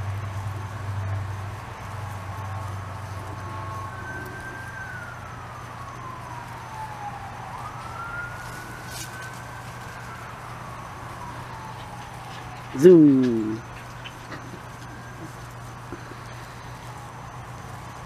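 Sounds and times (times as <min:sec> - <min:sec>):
emergency vehicle siren wailing: 0:00.0 - 0:18.0
steady low hum: 0:00.0 - 0:18.0.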